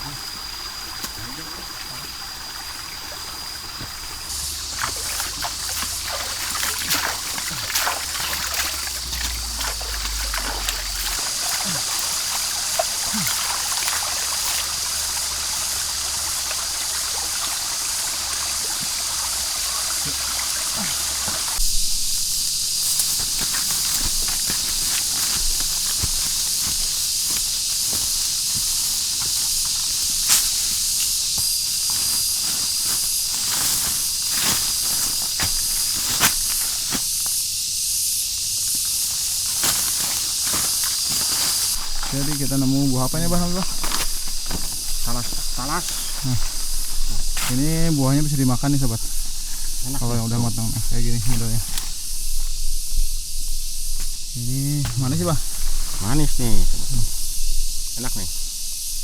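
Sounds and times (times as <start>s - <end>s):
footsteps through undergrowth: 0.0s - 59.0s
high-pitched hiss: 0.0s - 59.0s.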